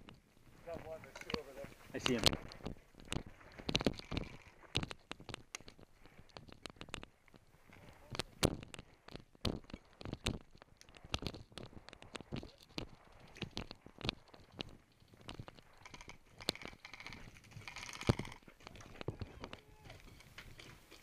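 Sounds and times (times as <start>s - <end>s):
sharp clicks and knocks: 1.0s - 21.0s.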